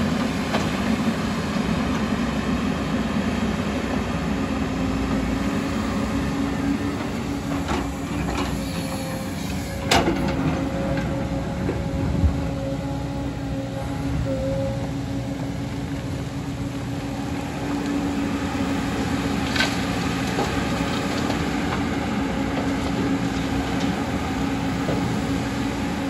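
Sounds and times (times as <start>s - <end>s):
excavator engine hum: 0.0s - 26.0s.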